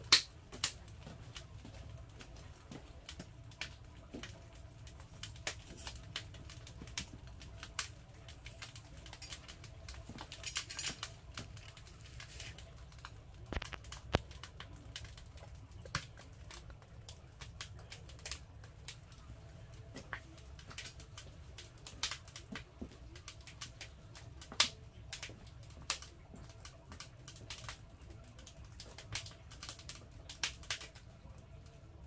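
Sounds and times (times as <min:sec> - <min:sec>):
firewood crackling in stove: 0:00.0 - 0:32.0.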